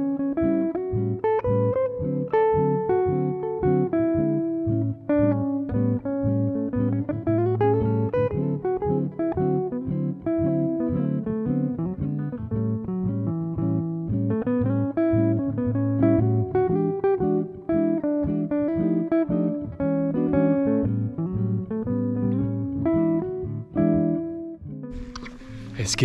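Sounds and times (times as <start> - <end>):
plucked guitar: 0.0 - 26.0.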